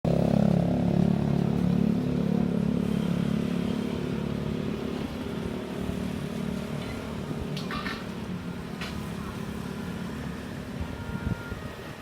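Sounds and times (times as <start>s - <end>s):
vehicle engine droning: 0.1s - 12.0s.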